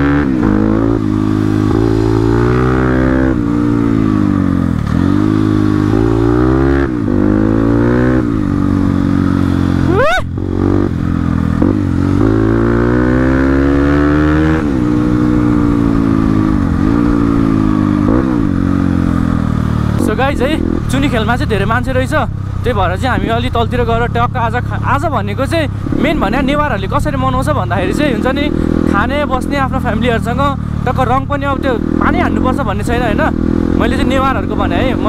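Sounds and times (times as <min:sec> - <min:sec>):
dirt bike engine revving: 0:00.0 - 0:22.4, 0:25.6 - 0:35.0.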